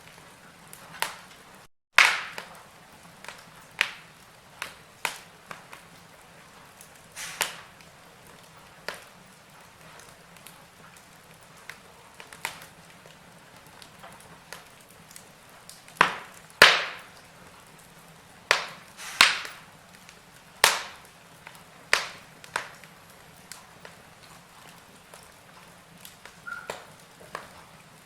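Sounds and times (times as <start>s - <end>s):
wood fire crackling: 0.0s - 28.0s
loud sharp fire pops: 0.1s - 1.4s, 2.0s - 12.9s, 13.6s - 27.6s.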